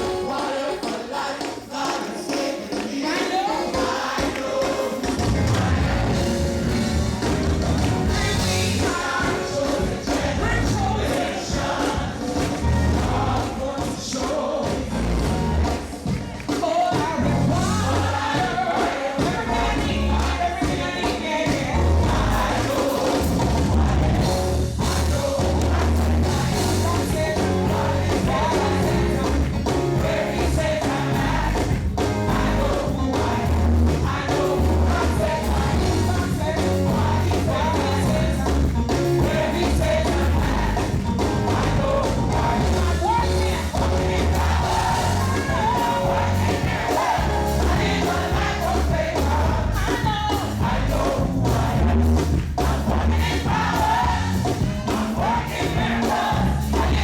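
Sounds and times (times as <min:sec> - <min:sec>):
choir and congregation singing: 0:00.0 - 0:57.0
band with bass-heavy beat: 0:05.0 - 0:11.7, 0:12.3 - 0:13.5, 0:14.7 - 0:18.6, 0:21.5 - 0:57.0.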